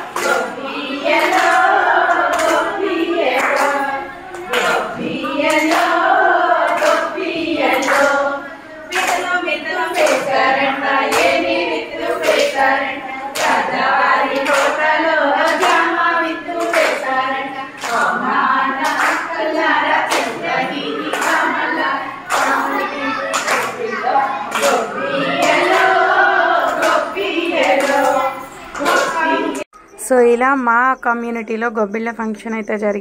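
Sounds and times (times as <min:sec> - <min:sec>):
hands clapping in a beat: 0:00.0 - 0:08.2, 0:08.9 - 0:29.7
women singing folk song: 0:00.0 - 0:29.7.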